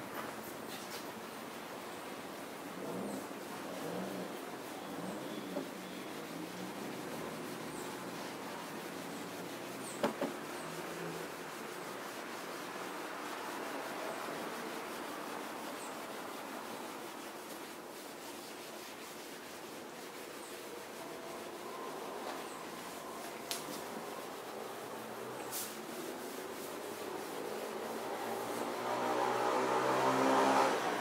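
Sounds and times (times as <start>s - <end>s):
scrubbing pad rubbing on glass: 0.7s - 31.0s.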